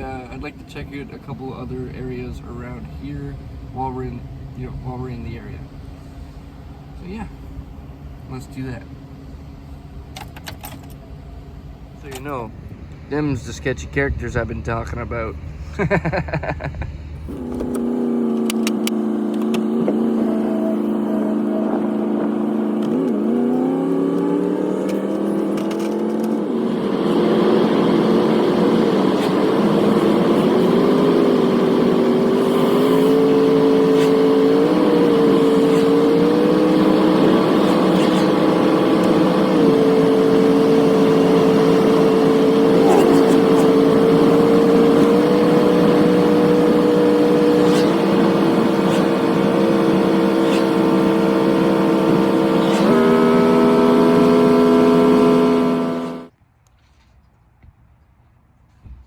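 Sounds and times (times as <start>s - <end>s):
van engine while driving: 0.0s - 56.3s.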